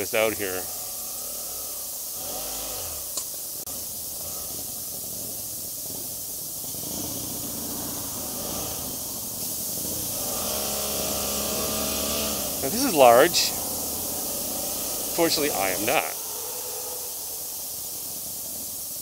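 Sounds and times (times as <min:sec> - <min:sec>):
motorcycle engine humming: 0:00.0 - 0:19.0
road noise: 0:00.0 - 0:19.0
wind hiss: 0:00.0 - 0:19.0.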